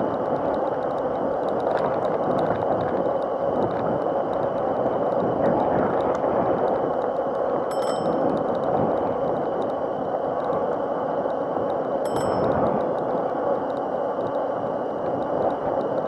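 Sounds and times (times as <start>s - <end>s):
high electric motor whine: 0.0s - 16.0s
tyres and wind rushing: 0.0s - 16.0s.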